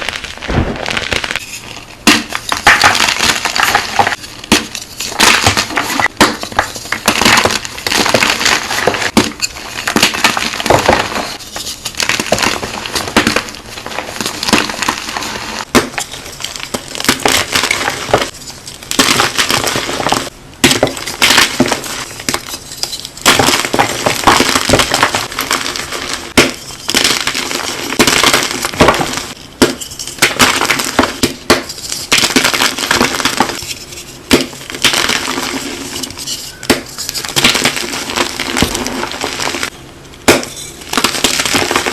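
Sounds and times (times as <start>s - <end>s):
brittle material crunching: 0.0s - 39.7s.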